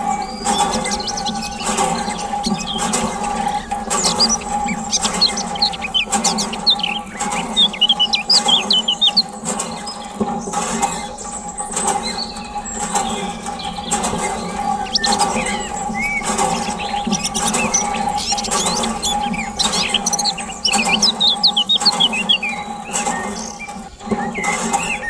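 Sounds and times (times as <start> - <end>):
small birds chirping: 0.0 - 25.0
steady hum: 0.0 - 25.0.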